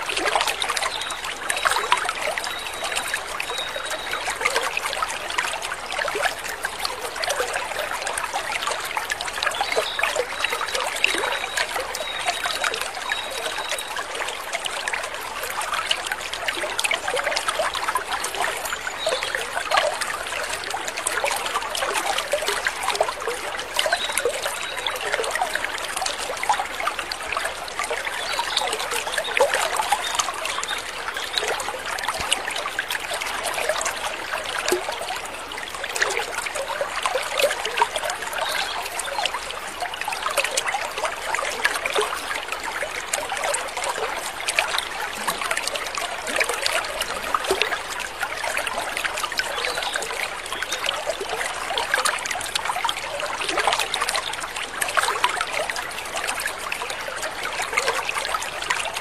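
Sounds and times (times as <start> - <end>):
stream water trickling and splashing: 0.0 - 59.0.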